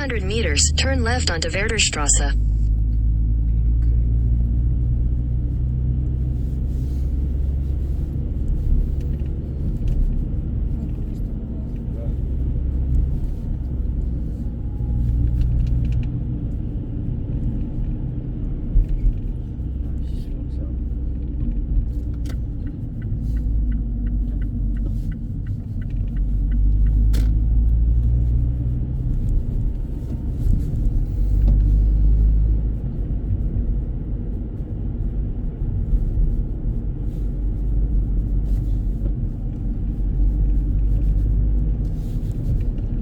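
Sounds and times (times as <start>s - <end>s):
car cabin road and engine rumble: 0.0s - 43.0s.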